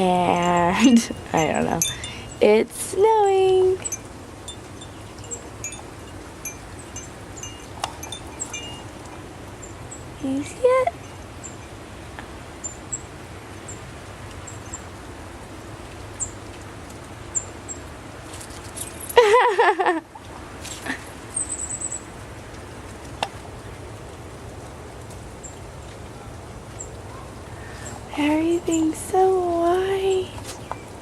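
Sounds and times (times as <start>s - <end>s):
steady low hiss: 0.0s - 31.0s.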